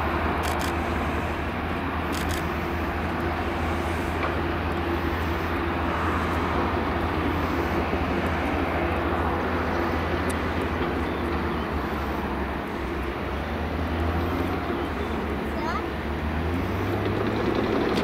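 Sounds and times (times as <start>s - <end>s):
jet engines rumbling at taxi power: 0.0s - 18.0s.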